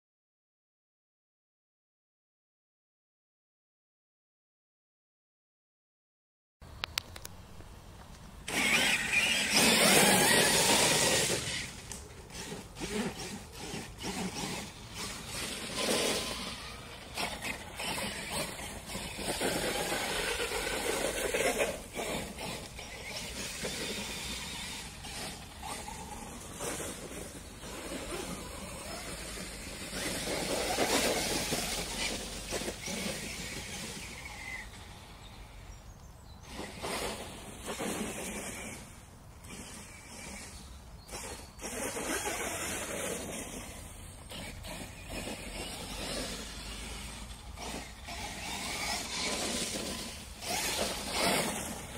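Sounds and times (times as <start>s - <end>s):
rc truck motor and tyres on dirt: 6.6s - 51.9s.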